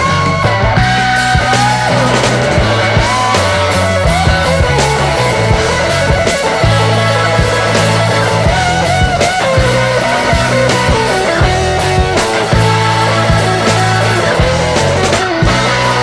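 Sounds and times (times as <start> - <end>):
rock music: 0.0 - 16.0.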